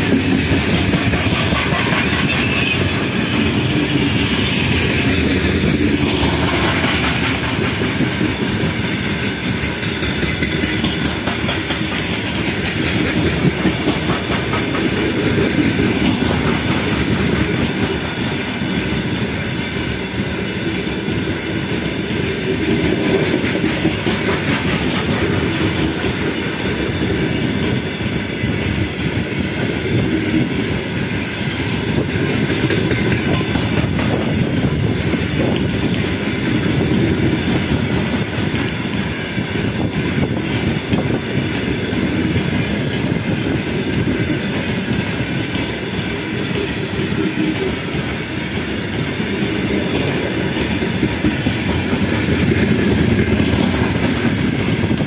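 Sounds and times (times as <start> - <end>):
wheels clacking over rail joints: 0.0 - 20.1, 22.2 - 28.0, 31.4 - 55.0
freight train rumble: 0.0 - 55.0.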